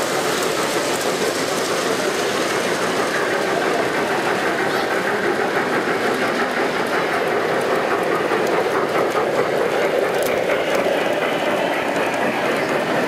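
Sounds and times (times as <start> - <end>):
model steam locomotive running on track: 0.0 - 13.0.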